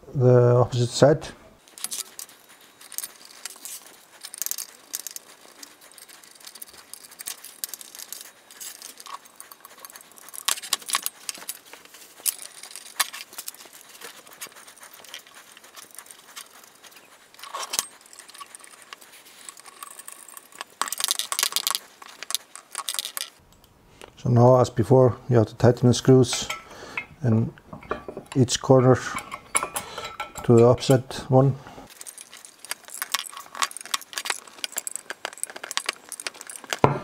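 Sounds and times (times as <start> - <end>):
metal screws and nuts clinking: 1.6 - 23.4, 25.7 - 31.2, 31.8 - 37.0.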